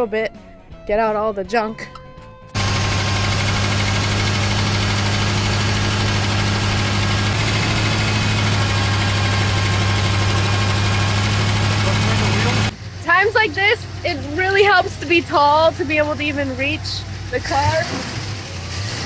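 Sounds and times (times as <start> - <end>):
engine idling: 2.6 - 19.0.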